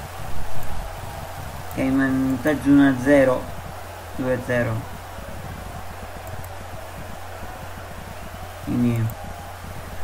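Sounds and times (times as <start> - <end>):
low crackling pops: 0.0 - 10.0.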